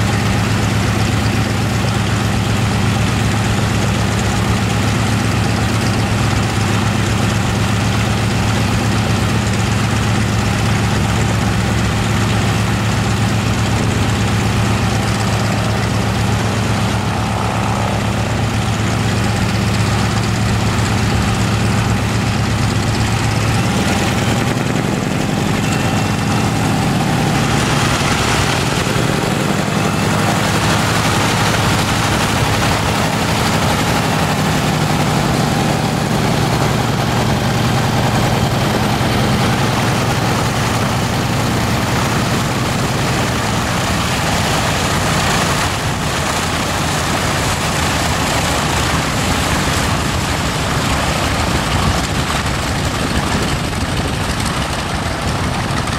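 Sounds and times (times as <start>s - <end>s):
biplane radial engines taxiing: 0.0s - 55.9s.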